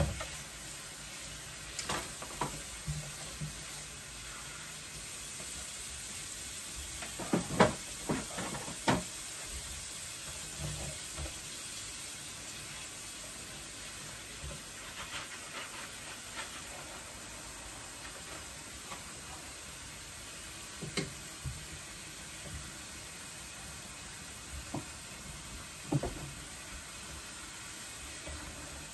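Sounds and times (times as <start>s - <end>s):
steady hiss: 0.0s - 28.9s.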